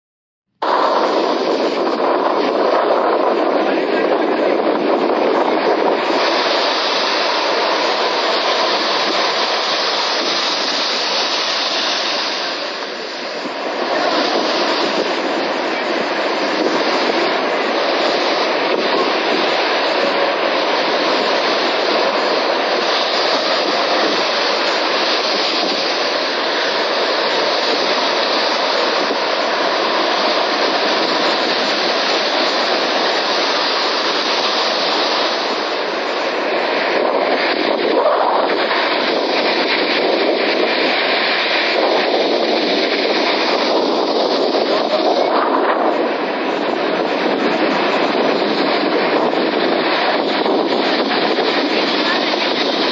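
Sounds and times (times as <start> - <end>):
waves breaking: 0.6 - 52.9.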